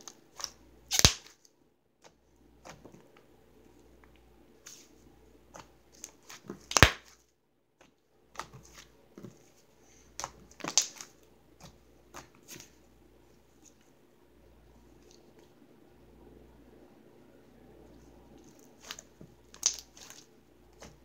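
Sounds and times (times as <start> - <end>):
slime squishing by hand: 0.0 - 14.0, 17.8 - 21.0.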